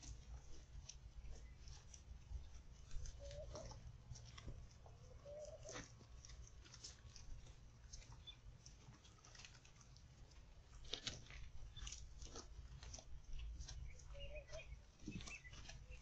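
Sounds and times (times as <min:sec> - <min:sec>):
hooves stepping on hard ground: 0:00.0 - 0:16.0.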